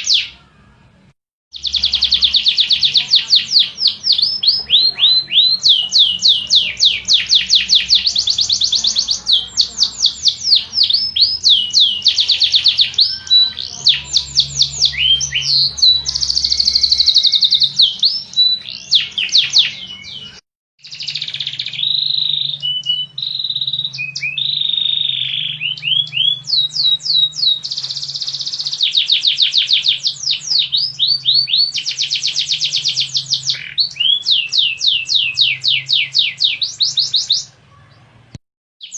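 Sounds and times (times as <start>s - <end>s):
canary singing: 0.0s - 38.2s.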